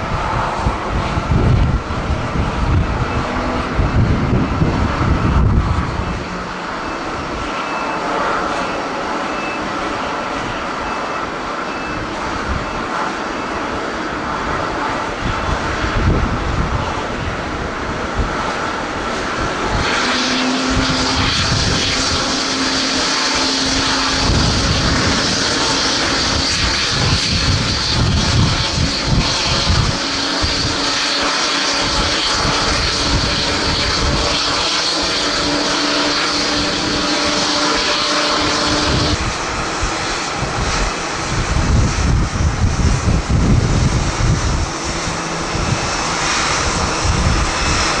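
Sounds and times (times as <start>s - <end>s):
jet engines whining: 0.0s - 48.0s
wind buffeting microphone: 0.0s - 48.0s.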